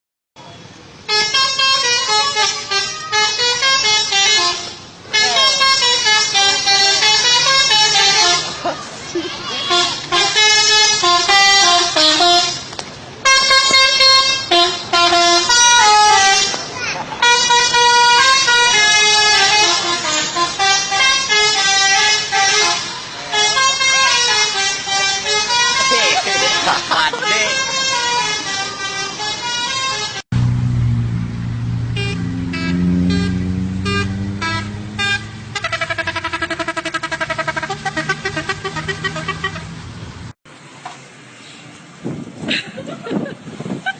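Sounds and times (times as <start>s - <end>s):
musical bus horn tune: 1.0s - 39.9s.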